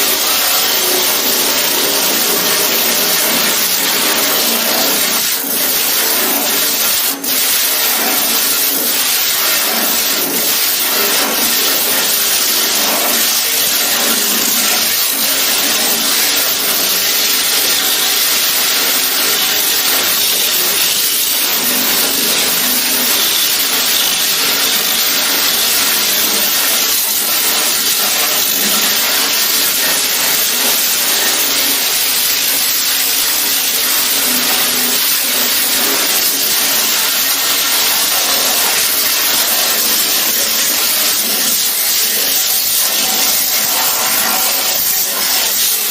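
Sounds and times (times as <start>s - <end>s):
grinder on steel panels: 0.0s - 45.9s.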